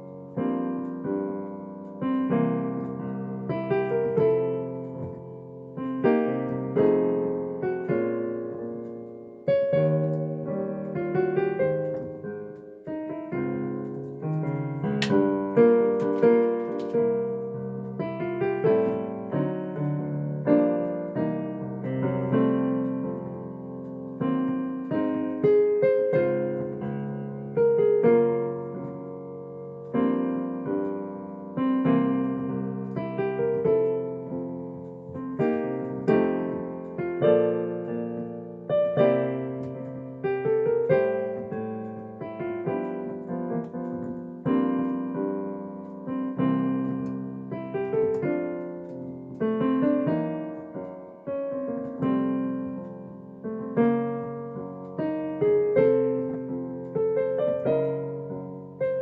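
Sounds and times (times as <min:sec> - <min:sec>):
slow bossa nova piano: 0:00.0 - 0:59.0.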